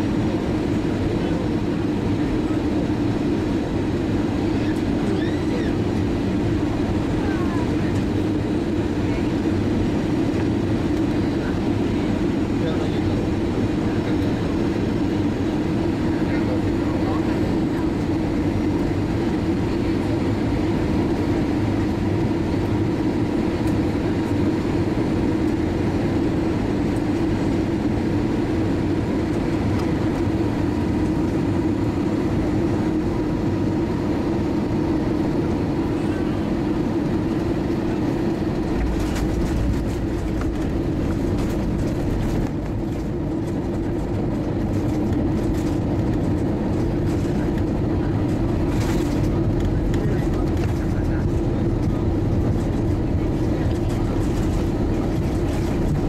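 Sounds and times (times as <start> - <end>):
aircraft engines and airflow hum: 0.0 - 56.0
wheels rumbling on runway: 0.0 - 56.0.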